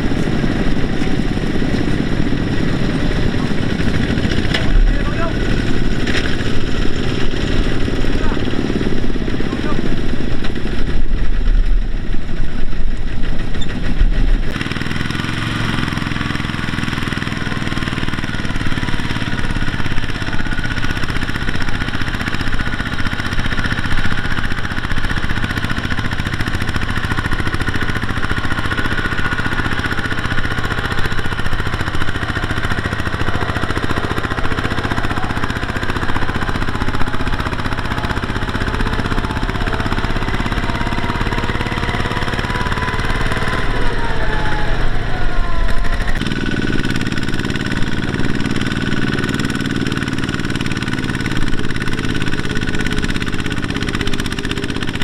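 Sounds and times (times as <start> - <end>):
diesel tractor engine chugging: 0.0 - 55.0.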